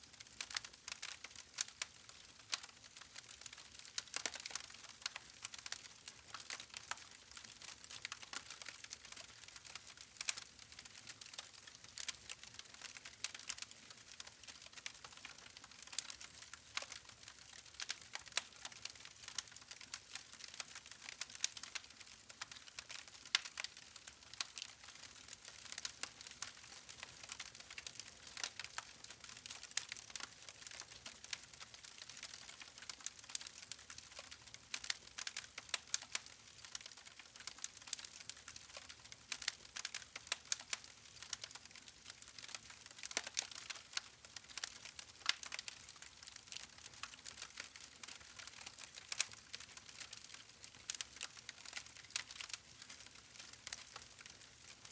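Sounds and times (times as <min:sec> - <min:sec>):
wood fire crackling: 0:00.2 - 0:54.9.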